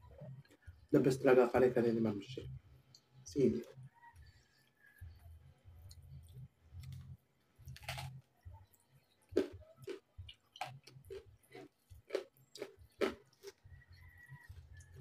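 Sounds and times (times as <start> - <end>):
crunchy chewing: 2.9 - 15.0.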